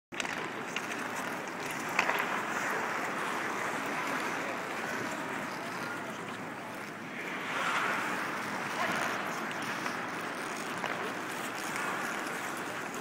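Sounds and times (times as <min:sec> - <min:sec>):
rink and crowd noise: 0:00.1 - 0:13.0.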